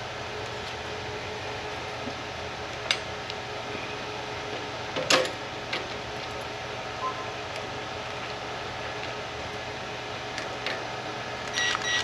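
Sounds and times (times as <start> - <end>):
electric fan hum: 0.0 - 12.0.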